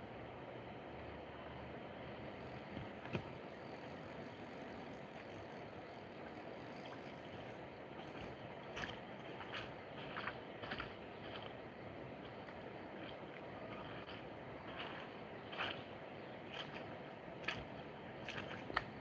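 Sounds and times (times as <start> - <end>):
faint outdoor rush: 0.0 - 19.0.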